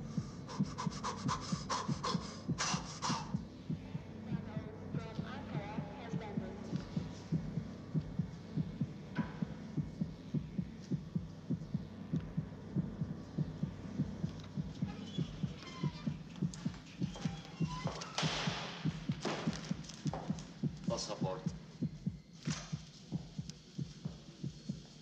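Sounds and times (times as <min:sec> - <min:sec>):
fast heartbeat thumps: 0:00.0 - 0:25.0.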